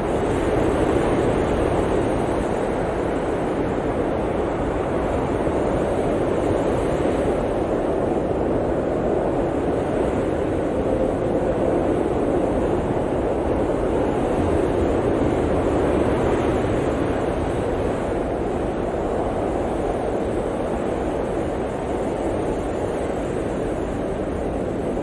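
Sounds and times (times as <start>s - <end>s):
blizzard wind blowing: 0.0s - 25.0s.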